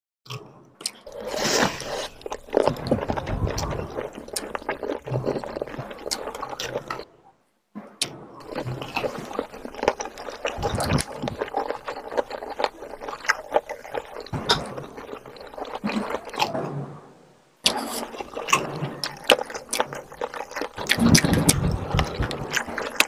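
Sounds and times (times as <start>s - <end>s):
wet chewing and lip smacking: 0.8s - 7.0s, 8.4s - 16.6s, 17.6s - 23.0s.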